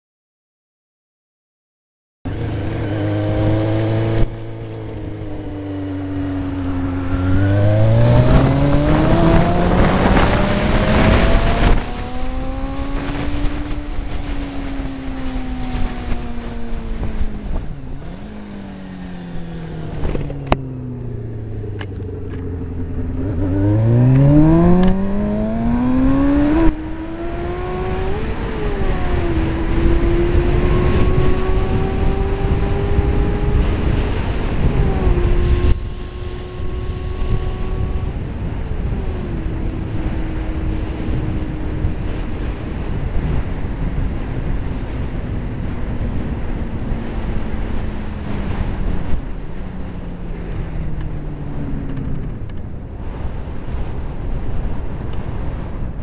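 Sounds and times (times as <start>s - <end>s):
wind noise on microphone: 2.3s - 18.7s, 19.3s - 56.0s
motorcycle engine revving: 2.3s - 53.0s.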